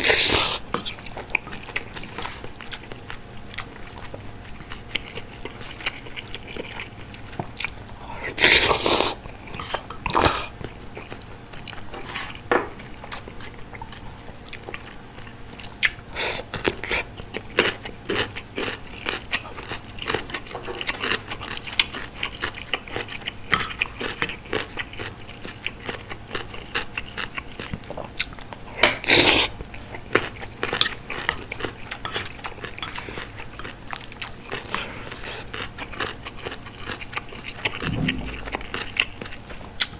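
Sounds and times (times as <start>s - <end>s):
close chewing and biting: 0.0s - 39.9s.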